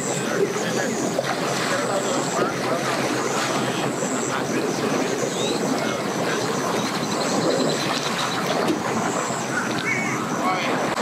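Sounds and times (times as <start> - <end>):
personal watercraft engine running: 0.0 - 11.0.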